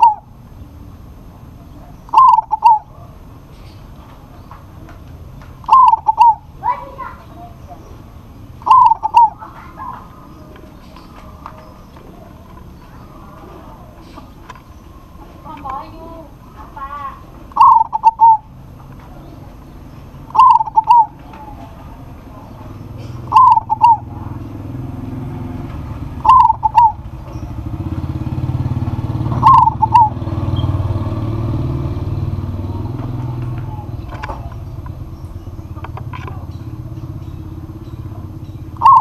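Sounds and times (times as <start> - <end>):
dove cooing: 0.0 - 0.4, 1.4 - 39.0
low motor rumble: 0.0 - 39.0.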